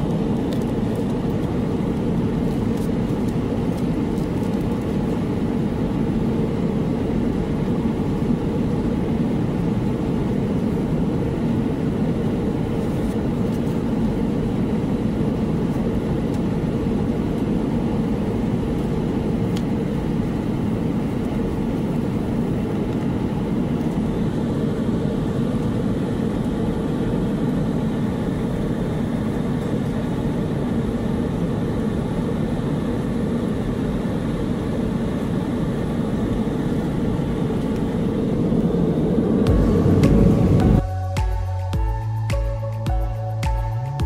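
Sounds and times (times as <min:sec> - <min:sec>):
airplane cabin noise: 0:00.0 - 0:41.1.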